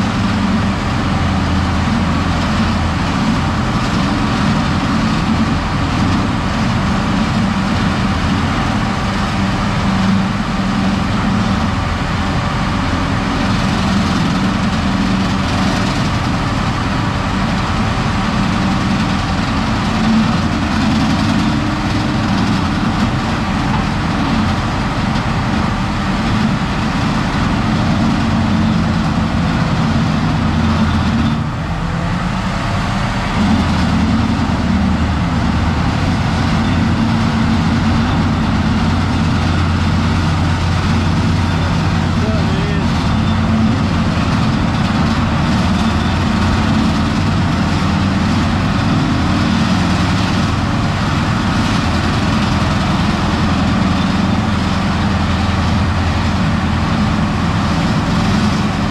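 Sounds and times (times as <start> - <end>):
heavy diesel machinery running: 0.0 - 58.9.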